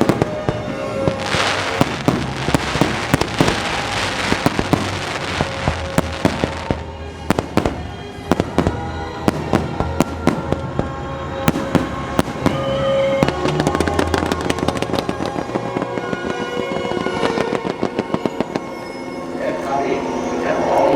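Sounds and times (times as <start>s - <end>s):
fireworks bangs and pops: 0.0s - 18.8s
fireworks crackling: 0.0s - 20.2s
music soundtrack: 0.0s - 20.9s.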